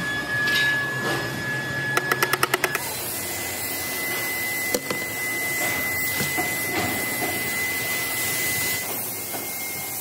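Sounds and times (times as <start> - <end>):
high-pitched machine whine: 0.0 - 10.0.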